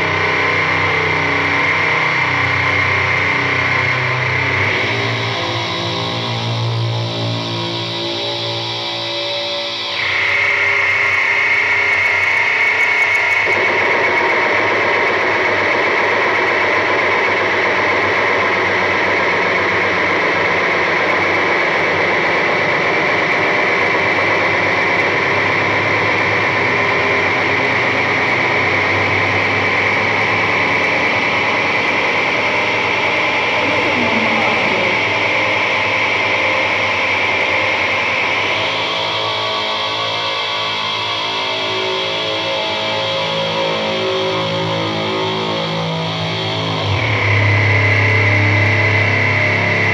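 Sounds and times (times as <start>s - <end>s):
distorted electric guitar music: 0.0s - 49.9s.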